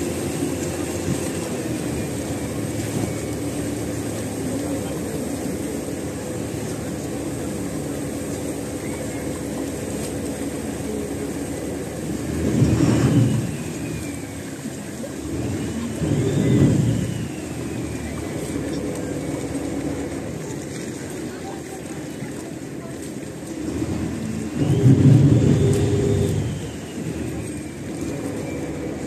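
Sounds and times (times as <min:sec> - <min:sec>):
boat motor running: 0:00.0 - 0:29.0
water rushing along hull: 0:00.0 - 0:29.0.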